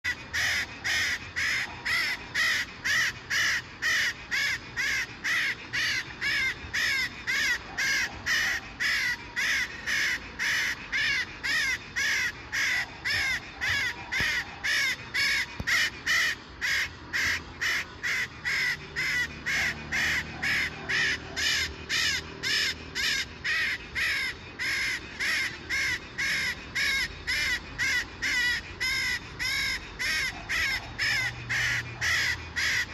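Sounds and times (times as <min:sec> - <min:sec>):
parrot calling: 0:00.0 - 0:32.9.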